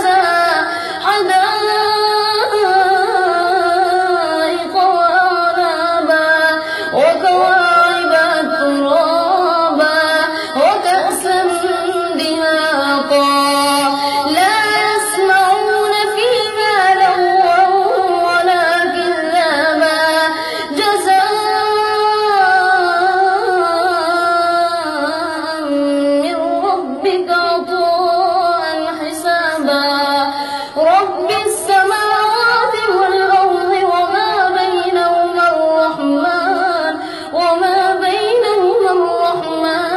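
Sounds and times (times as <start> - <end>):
boy chanting melodically: 0.0 - 39.9.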